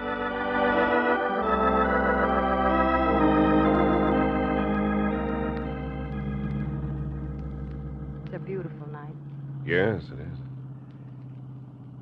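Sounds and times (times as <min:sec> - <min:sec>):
held organ chords: 0:00.0 - 0:12.0.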